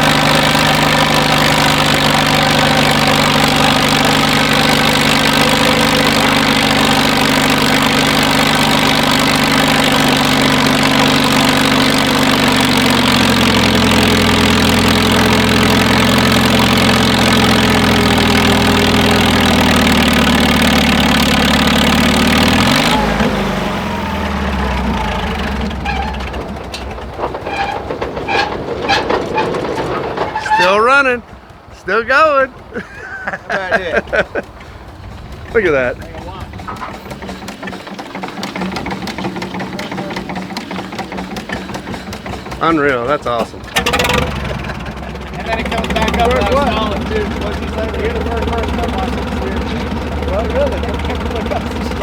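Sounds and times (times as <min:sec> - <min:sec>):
tractor engine pulling hard: 0:00.0 - 0:52.0.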